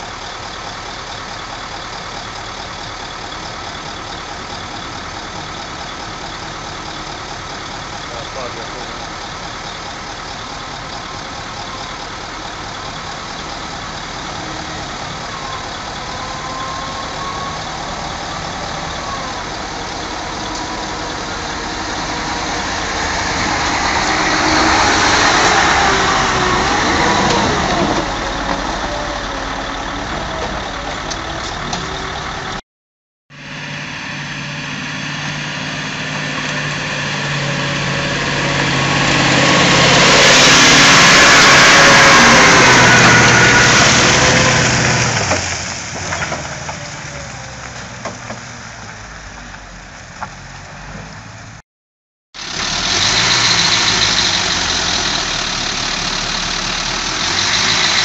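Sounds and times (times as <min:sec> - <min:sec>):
diesel truck engines on dirt track: 0:00.0 - 0:32.6, 0:33.3 - 0:51.6, 0:52.4 - 0:58.0.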